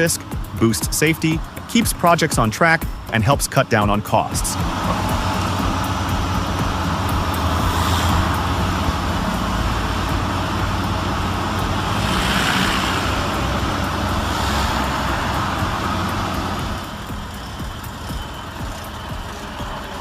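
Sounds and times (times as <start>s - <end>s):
broad rushing noise: 0.0s - 20.0s
diesel engine drone: 0.0s - 20.0s.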